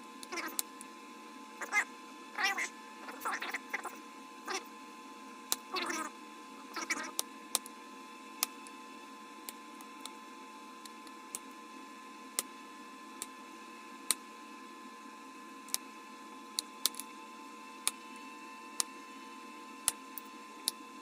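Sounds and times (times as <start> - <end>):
steady hum with thin whine: 0.0 - 21.0.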